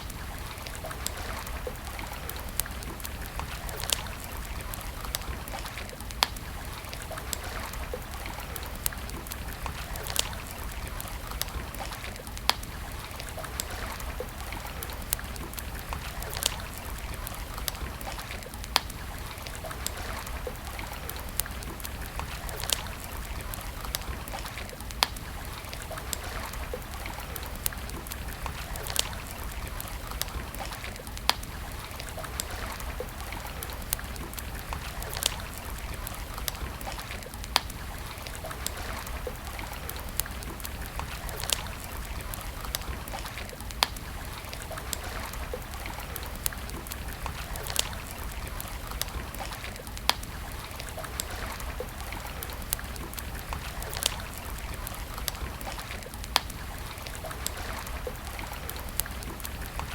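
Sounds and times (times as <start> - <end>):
campfire crackling: 0.0 - 59.9
flowing water: 0.0 - 59.9.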